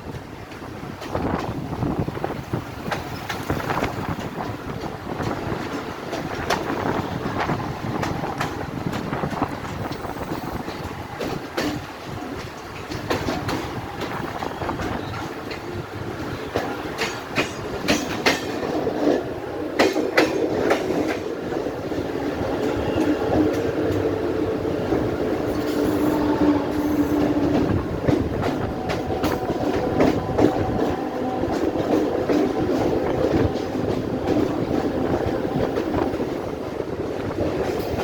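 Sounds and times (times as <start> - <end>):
train hum: 0.0 - 38.0
train wheels clattering: 0.0 - 38.0.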